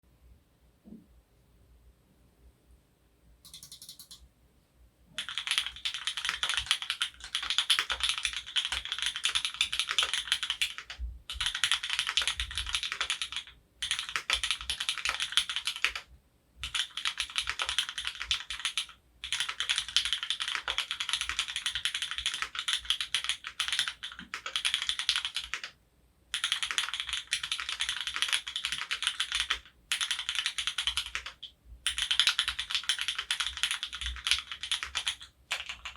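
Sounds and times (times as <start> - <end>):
fast typing on mechanical keyboard: 3.5 - 4.2, 5.2 - 35.9.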